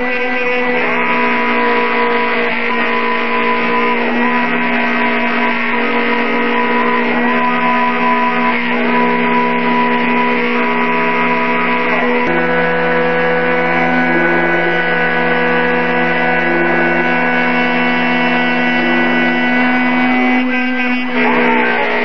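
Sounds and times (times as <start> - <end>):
drive motors whining: 0.0 - 22.0
spindle motor running: 0.0 - 22.0.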